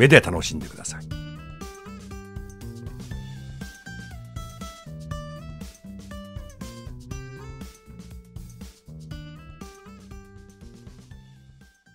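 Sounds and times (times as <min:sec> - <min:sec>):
guitar-led instrumental music: 0:00.0 - 0:11.8.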